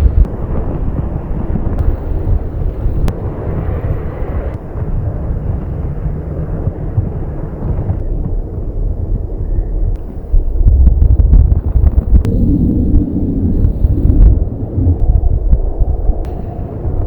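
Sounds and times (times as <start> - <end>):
gusty wind buffeting microphone: 0.0 - 17.0.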